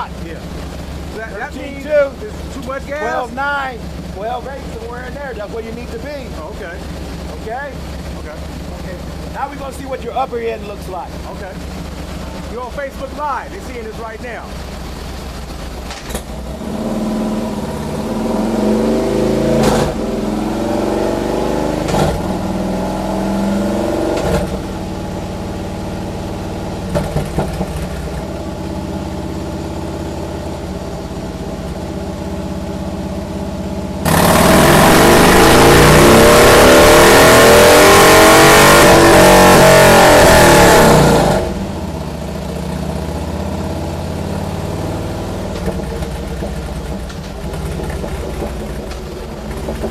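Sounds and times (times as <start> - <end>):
motorcycle engine revving on a dyno: 0.0 - 49.9.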